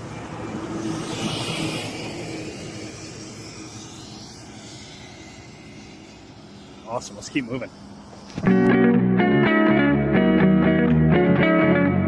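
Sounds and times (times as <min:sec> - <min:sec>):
engine passing: 0:00.0 - 0:11.8.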